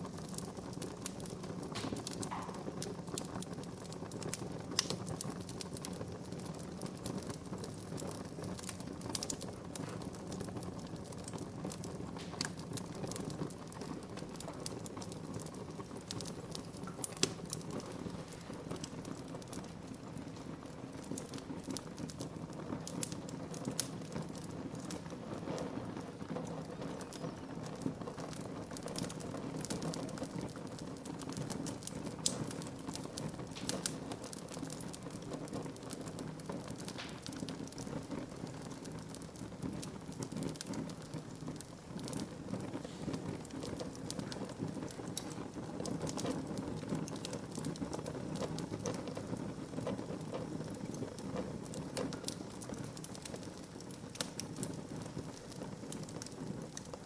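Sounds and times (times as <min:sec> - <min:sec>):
low rumble of flame: 0:00.0 - 0:57.0
wood fire crackling and popping: 0:00.0 - 0:57.0.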